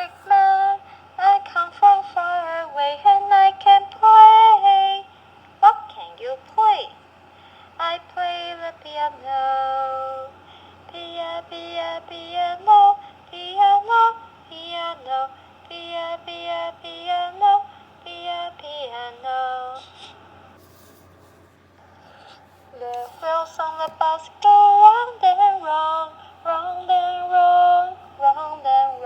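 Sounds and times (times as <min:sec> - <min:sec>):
woman singing through small speaker: 0:00.0 - 0:07.0, 0:07.8 - 0:20.2, 0:22.7 - 0:29.0
steady low hum: 0:00.0 - 0:29.0.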